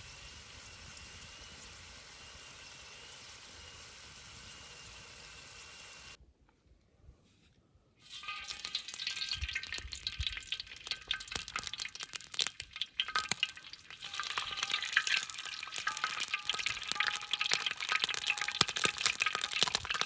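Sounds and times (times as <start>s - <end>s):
food sizzling in a pan: 0.0s - 6.2s, 8.0s - 20.0s.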